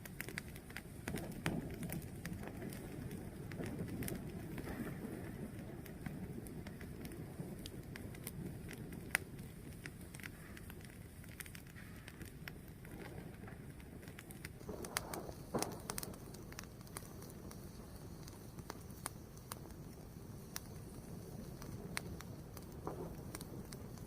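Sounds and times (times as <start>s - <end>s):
fire burning low rush: 0.0s - 24.0s
fire popping: 0.0s - 24.0s.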